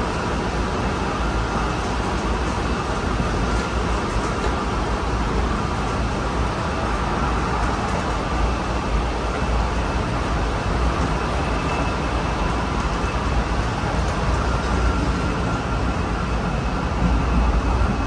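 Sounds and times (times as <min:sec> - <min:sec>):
faint high whine: 0:00.0 - 0:18.0
rumble of wheels on rail: 0:00.0 - 0:18.0.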